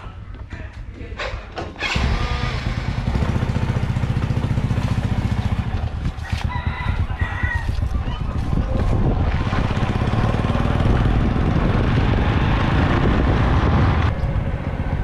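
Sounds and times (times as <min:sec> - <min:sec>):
motorcycle engine starting and running: 0:01.7 - 0:15.0.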